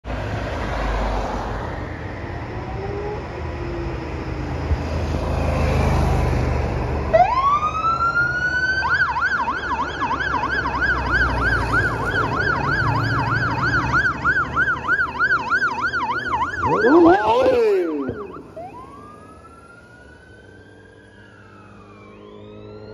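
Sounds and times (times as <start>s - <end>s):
low road traffic: 0.0s - 22.9s
fire truck siren wailing and yelping: 1.4s - 6.0s, 7.0s - 22.9s.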